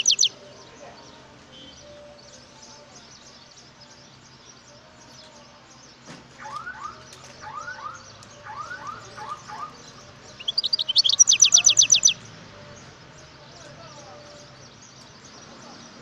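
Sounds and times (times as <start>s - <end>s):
goldfinch song: 0.0s - 16.0s.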